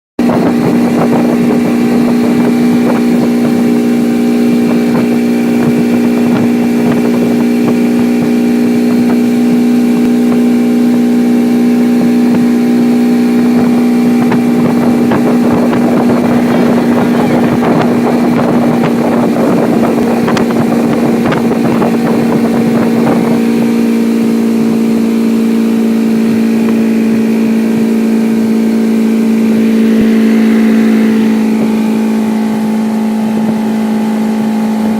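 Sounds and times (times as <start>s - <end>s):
motorboat engine running: 0.2s - 34.9s.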